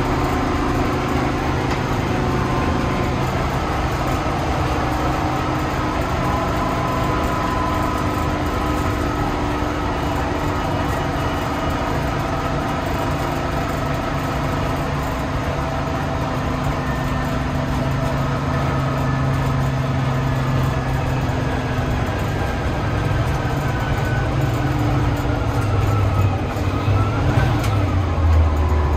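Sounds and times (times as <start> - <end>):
road noise: 0.0 - 28.9
truck engine drone: 0.0 - 28.9.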